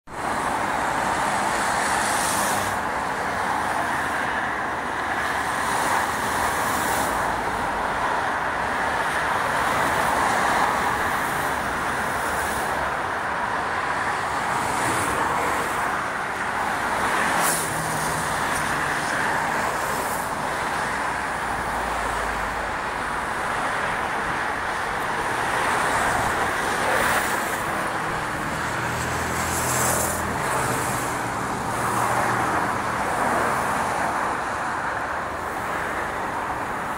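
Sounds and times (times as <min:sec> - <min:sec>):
motorway traffic rushing: 0:00.1 - 0:36.9.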